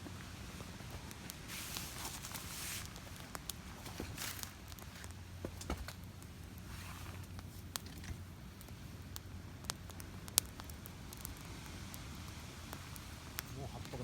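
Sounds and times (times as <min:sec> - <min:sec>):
campfire crackling: 0:00.0 - 0:14.0
sharp pops from fire: 0:00.0 - 0:14.0.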